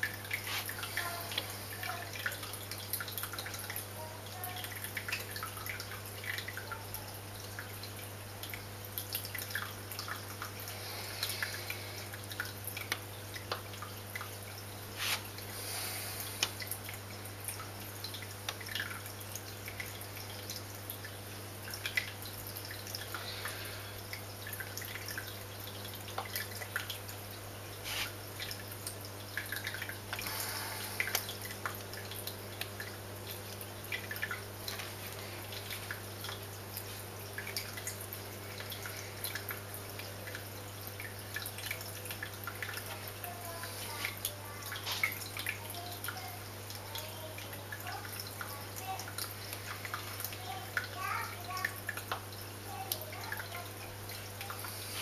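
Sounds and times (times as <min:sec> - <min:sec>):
water dripping and trickling: 0:00.0 - 0:55.0.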